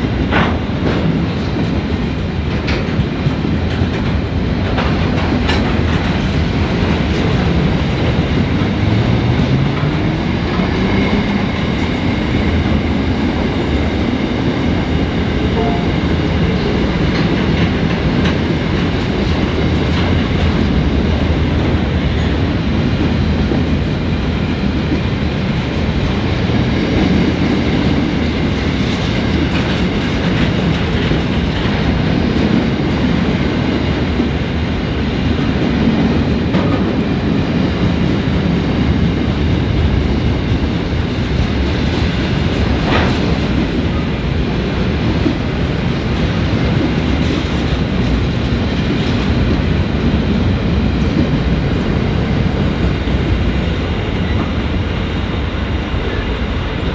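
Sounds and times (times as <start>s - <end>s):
train wheels on rails: 0.0s - 56.9s.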